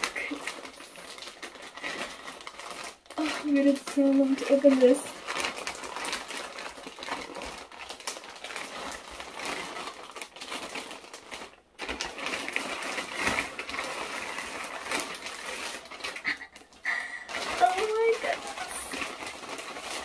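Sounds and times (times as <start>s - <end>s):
plastic bag crinkling and tearing: 0.0s - 20.0s.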